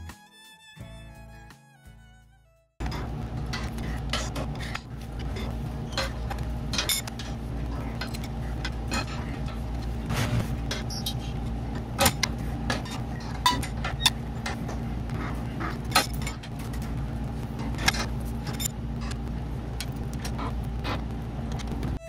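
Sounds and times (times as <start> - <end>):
steady low hum: 2.8 - 22.0.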